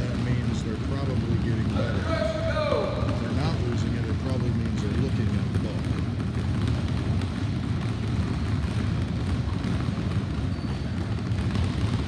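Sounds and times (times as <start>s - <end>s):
basketballs dribbling on hardwood floor: 0.0s - 12.0s.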